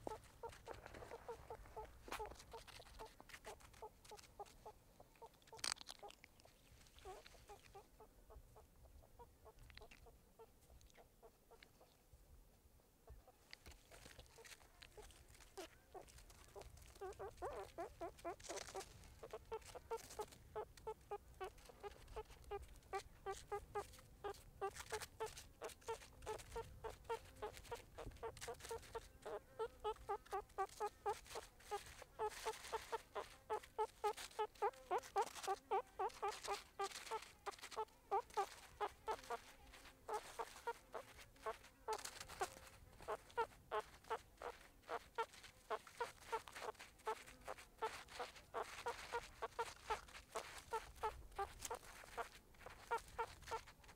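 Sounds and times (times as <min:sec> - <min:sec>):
meerkats calling: 0:00.0 - 0:12.0, 0:14.1 - 0:53.7.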